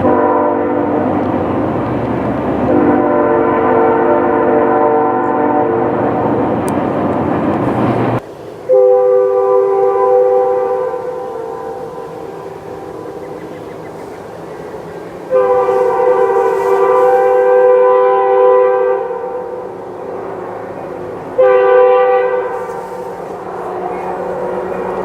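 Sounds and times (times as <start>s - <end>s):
locomotive horn chord: 0.0s - 1.4s, 2.6s - 6.3s, 8.6s - 25.0s
rushing noise: 0.8s - 25.0s.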